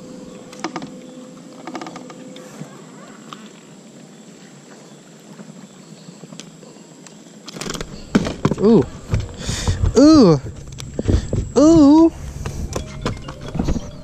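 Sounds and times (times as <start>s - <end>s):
low hum: 0.0s - 5.9s, 7.7s - 14.0s.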